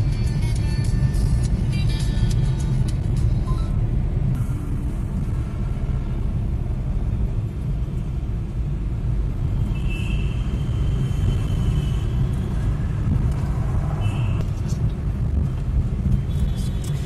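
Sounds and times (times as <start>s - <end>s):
car engine rumble: 0.0s - 17.0s
tyres on the road: 0.0s - 17.0s.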